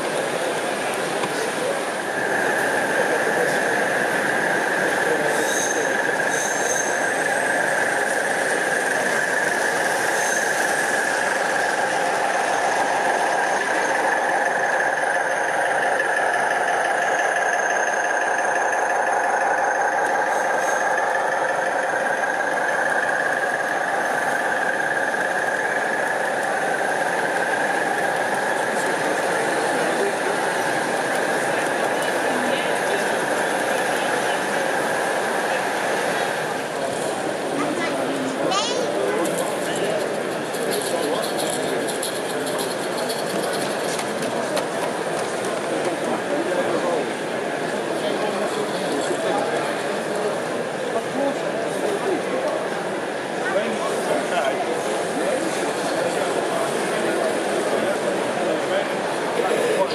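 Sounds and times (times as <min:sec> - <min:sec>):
model train wheels whining: 0:00.0 - 0:59.9.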